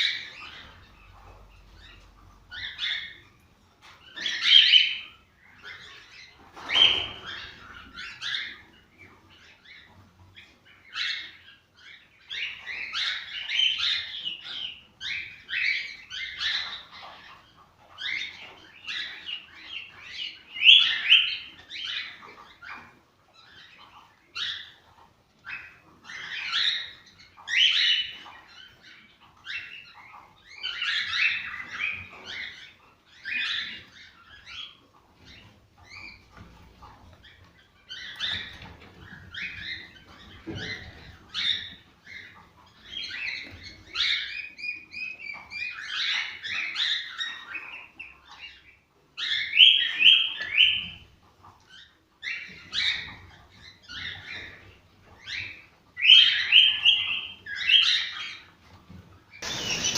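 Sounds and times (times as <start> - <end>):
cockatiels chirping and warbling: 0.0 - 59.9.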